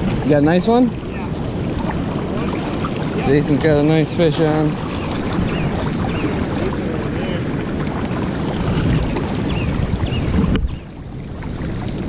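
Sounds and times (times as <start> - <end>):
river water rushing: 0.0 - 12.0
wind on microphone: 0.0 - 12.0.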